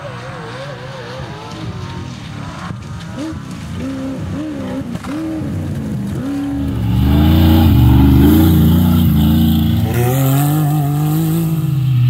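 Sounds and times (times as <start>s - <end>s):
engines revving hard: 0.0s - 12.0s
deeper engine revving: 1.5s - 12.0s.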